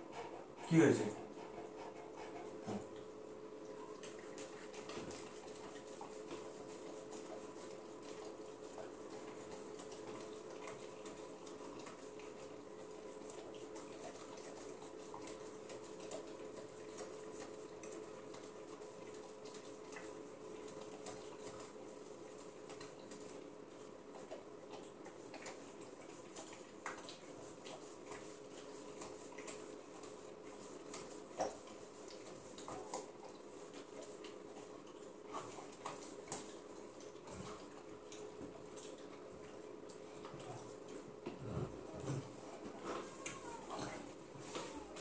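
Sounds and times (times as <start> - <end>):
dog lapping and smacking: 0.0 - 45.0
steady background hum: 0.0 - 45.0.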